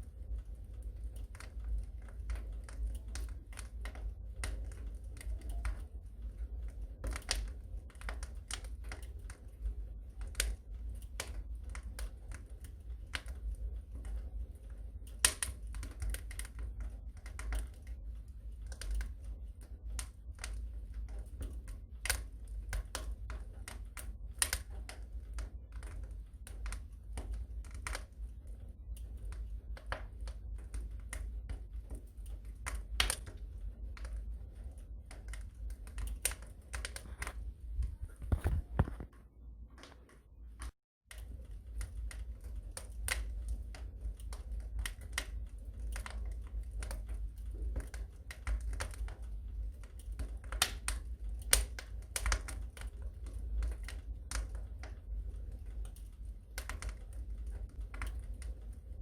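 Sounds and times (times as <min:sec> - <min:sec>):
fire snapping and popping: 0:00.0 - 0:59.0
low fire rumble: 0:00.0 - 0:59.0.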